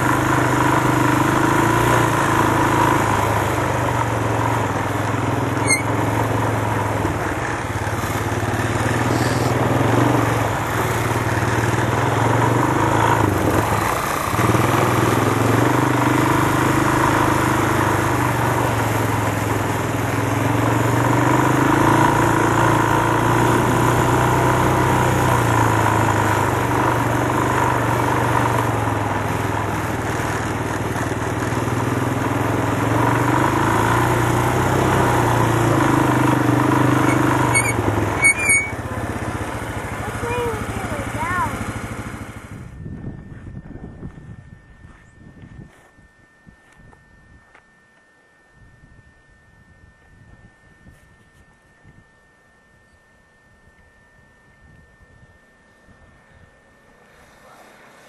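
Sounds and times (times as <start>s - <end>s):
quad engine running: 0.0s - 47.6s, 53.7s - 58.0s.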